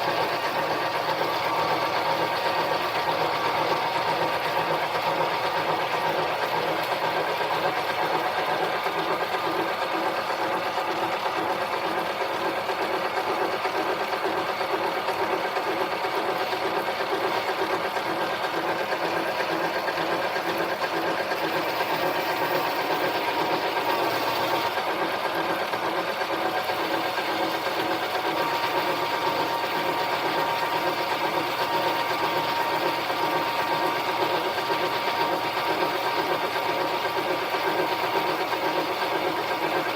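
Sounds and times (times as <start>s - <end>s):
lathe humming and whining: 0.0s - 39.9s.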